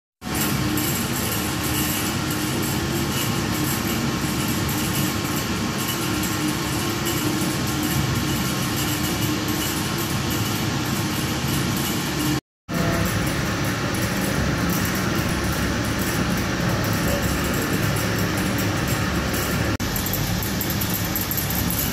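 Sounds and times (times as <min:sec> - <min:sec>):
distillation equipment rush and hum: 0:00.2 - 0:21.9.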